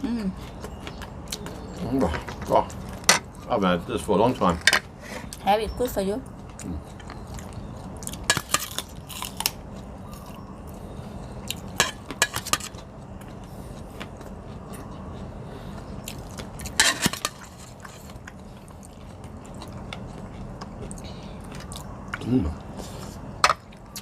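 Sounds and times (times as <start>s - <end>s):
steady low hum: 0.0s - 24.0s
chewing: 0.3s - 3.5s, 6.2s - 24.0s.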